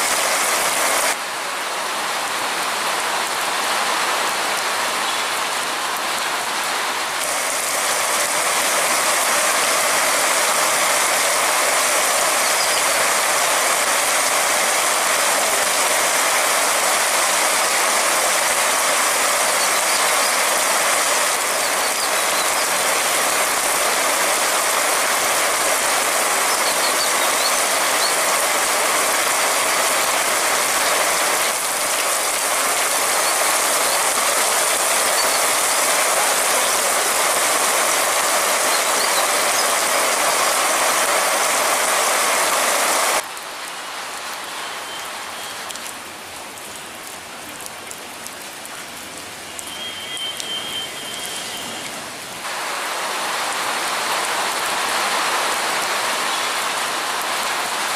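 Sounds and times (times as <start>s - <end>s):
heavy rain on pavement and cars: 0.0s - 57.9s.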